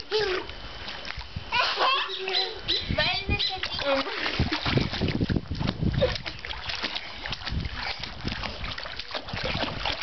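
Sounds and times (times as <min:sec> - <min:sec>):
pool water splashing: 0:00.0 - 0:10.0.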